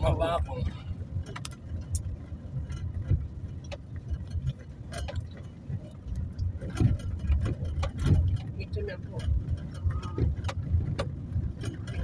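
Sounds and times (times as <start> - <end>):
car engine and tyre rumble: 0.0 - 12.0
knocks and rattles: 1.1 - 12.0.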